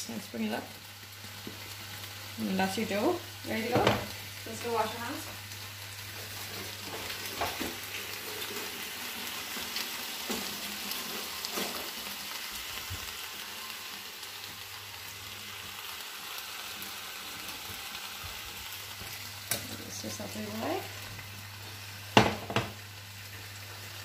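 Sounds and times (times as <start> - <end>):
vegetables sizzling in a frying pan: 0.0 - 24.0.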